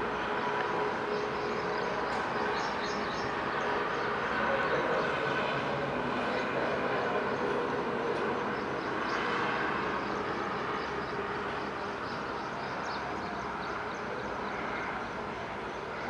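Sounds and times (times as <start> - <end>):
jet engine noise: 0.0 - 16.0.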